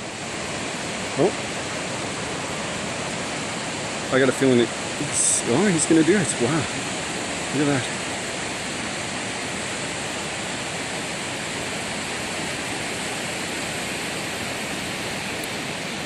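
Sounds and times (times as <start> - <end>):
ocean surf washing on beach: 0.0 - 16.0.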